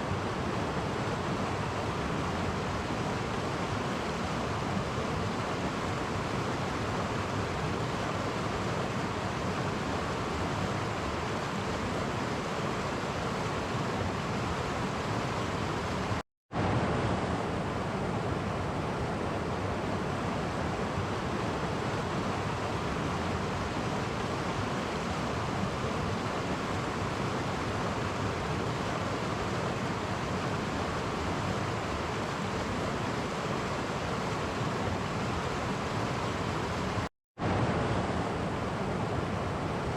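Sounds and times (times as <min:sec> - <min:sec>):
stream flowing over cascades: 0:00.0 - 0:39.9.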